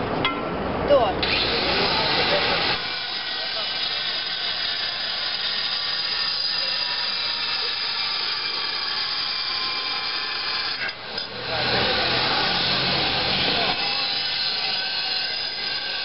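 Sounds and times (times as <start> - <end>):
mechanical noise with whining tones: 1.2 - 16.0.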